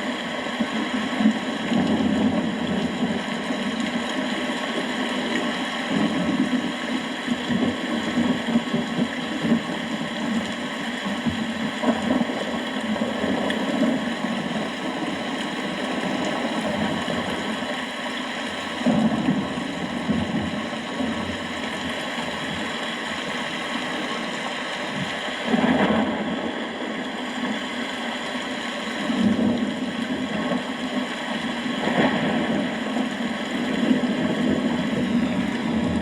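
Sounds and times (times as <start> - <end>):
steady rain: 0.0 - 36.0.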